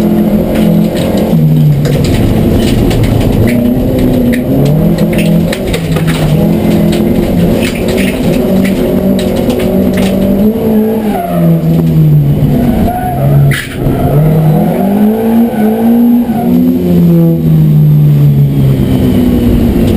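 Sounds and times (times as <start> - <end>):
race car engine revving: 0.0 - 19.9.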